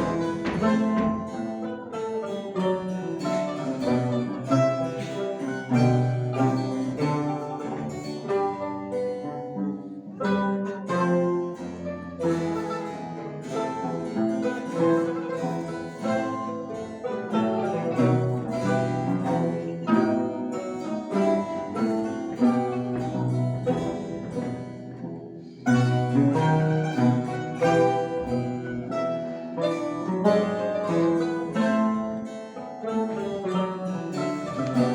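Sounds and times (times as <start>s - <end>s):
mandolin ensemble playing: 0.0s - 34.9s.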